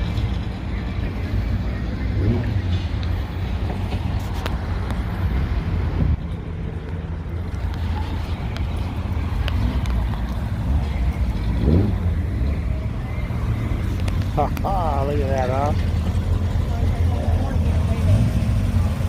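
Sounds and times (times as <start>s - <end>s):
car engines rumbling past: 0.0s - 19.0s.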